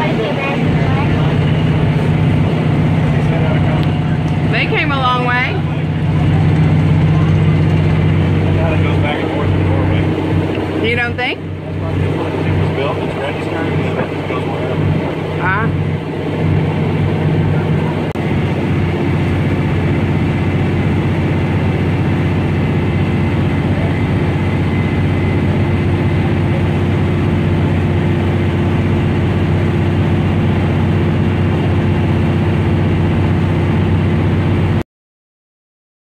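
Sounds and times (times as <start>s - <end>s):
boat engine droning: 0.0s - 34.8s.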